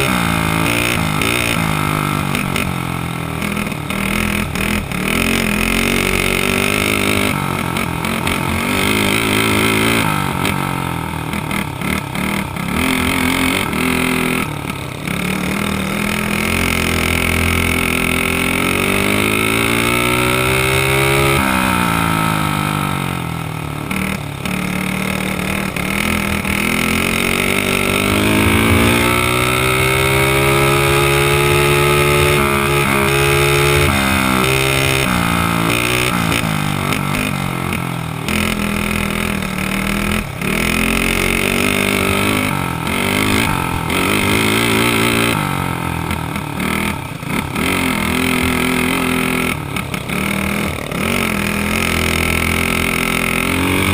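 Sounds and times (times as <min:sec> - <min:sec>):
kart engine revving: 0:00.0 - 0:53.9.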